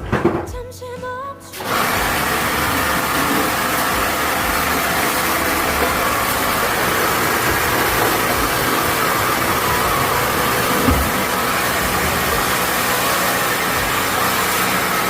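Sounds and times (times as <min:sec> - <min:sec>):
machine whirring hiss: 0:01.6 - 0:15.0.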